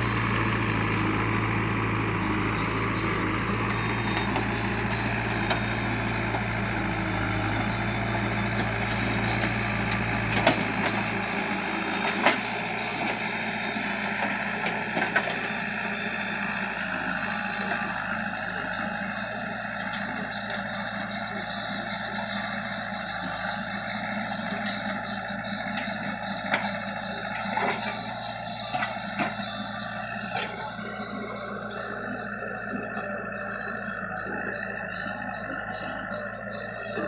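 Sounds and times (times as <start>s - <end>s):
heavy vehicle engine humming: 0.0s - 37.0s.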